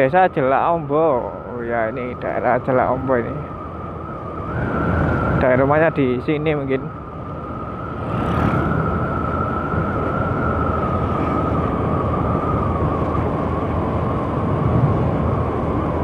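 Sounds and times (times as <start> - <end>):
scooter engine high whine: 0.0 - 16.0
wind and road rush: 0.0 - 16.0.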